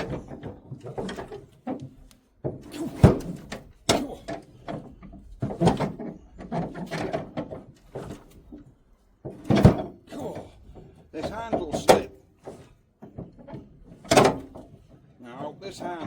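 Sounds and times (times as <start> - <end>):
engine cranked by hand clunking: 0.0 - 16.0.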